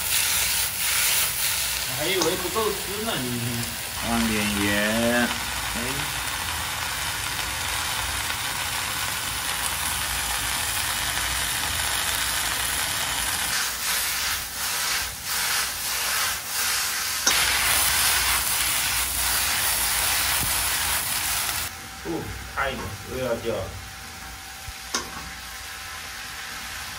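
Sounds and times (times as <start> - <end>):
potato frying in a wok: 0.0 - 26.9.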